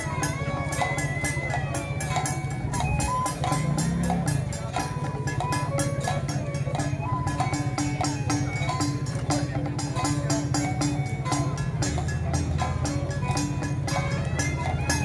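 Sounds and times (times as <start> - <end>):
fast drum beat: 0.0 - 15.0
high melody line: 0.0 - 15.0.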